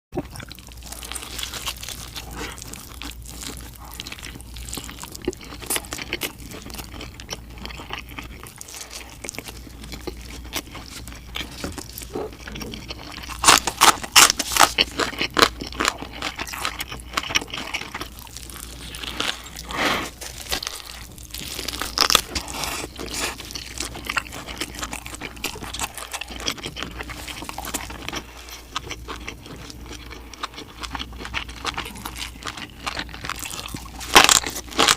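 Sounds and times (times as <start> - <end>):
crunching and chewing: 0.2 - 34.9.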